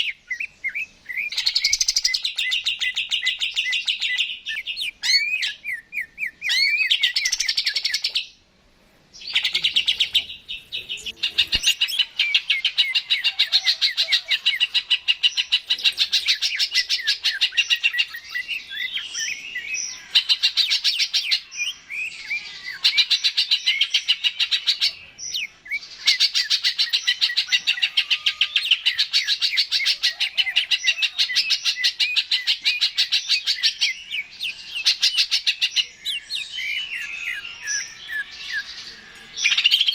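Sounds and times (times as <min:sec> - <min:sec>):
bird singing rapid chirps: 0:00.0 - 0:08.4, 0:09.2 - 0:39.9.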